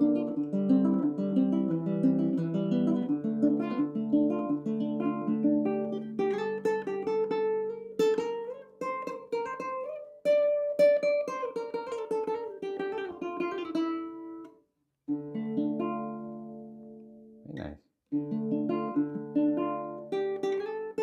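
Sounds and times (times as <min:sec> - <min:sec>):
ukulele plucked notes: 0:00.0 - 0:14.5, 0:15.1 - 0:17.4, 0:18.1 - 0:21.0.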